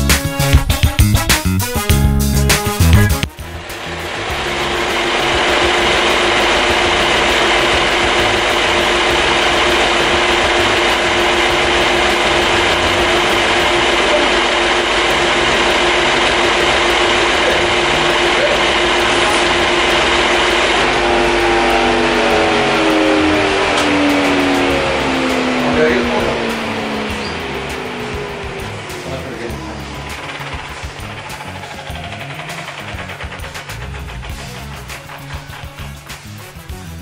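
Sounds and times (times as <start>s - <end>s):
machine whirring: 2.7s - 36.7s.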